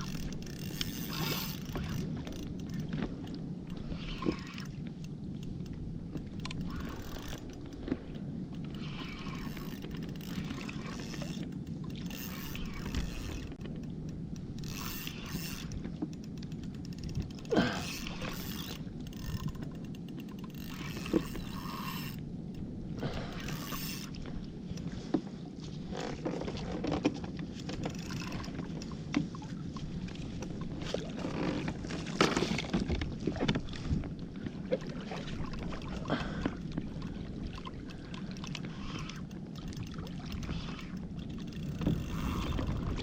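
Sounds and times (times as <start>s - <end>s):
water splashing around kayak hull: 0.0s - 43.0s.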